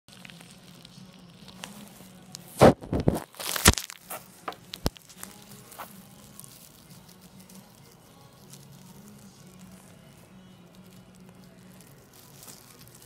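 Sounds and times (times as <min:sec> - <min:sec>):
crinkling plastic rustles: 0:00.1 - 0:13.0.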